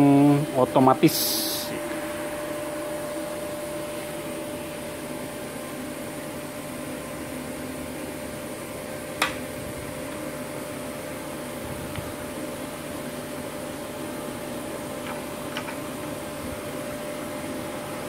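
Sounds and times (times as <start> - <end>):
cooling fan hum: 0.0 - 18.0
thin steady whine: 0.0 - 18.0.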